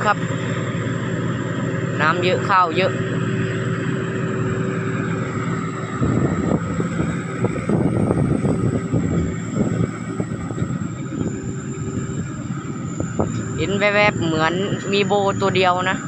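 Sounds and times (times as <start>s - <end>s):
diesel engine running under load: 0.0s - 16.0s
high turbocharger whine: 0.0s - 16.0s.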